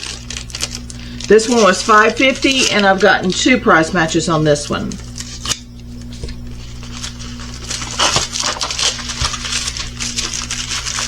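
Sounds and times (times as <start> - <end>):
packaging rustling: 0.0 - 11.0
steady low hum: 0.0 - 11.0.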